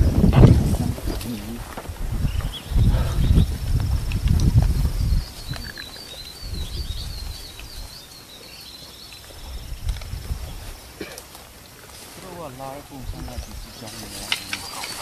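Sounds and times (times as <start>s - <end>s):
songbird singing high chirps: 2.1s - 11.0s, 11.6s - 15.0s.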